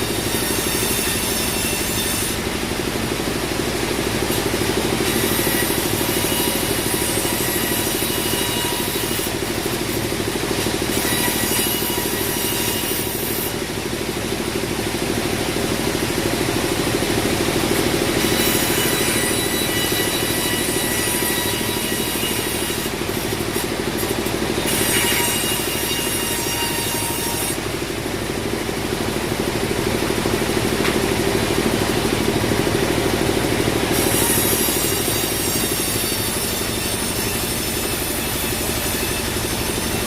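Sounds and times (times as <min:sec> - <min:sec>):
bandsaw sawmill humming: 0:00.0 - 0:40.0.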